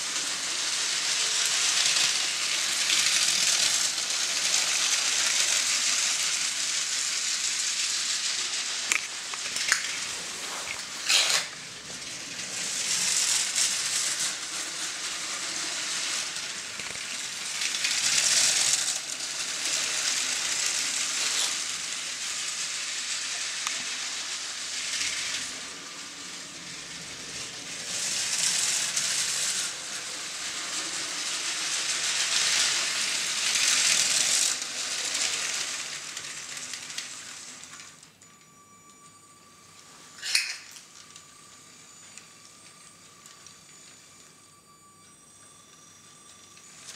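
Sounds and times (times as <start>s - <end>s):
toy train wheels clattering on track: 0.0s - 39.1s, 39.8s - 44.7s, 45.6s - 46.9s.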